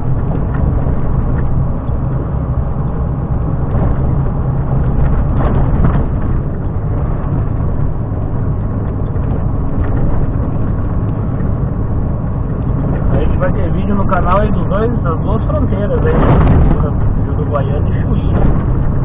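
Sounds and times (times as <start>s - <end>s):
truck diesel engine drone: 0.0s - 19.0s
tyre and road noise: 0.0s - 19.0s.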